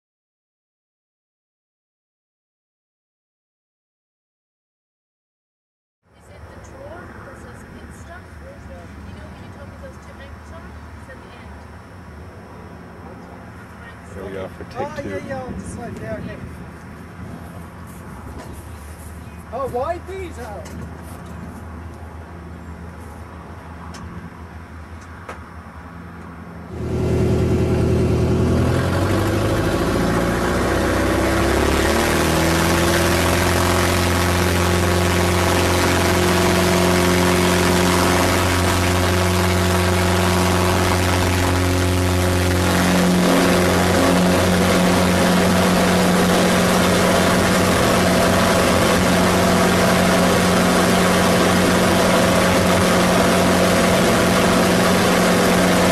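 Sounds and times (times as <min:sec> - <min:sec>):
propeller plane engine: 0:06.2 - 0:55.9.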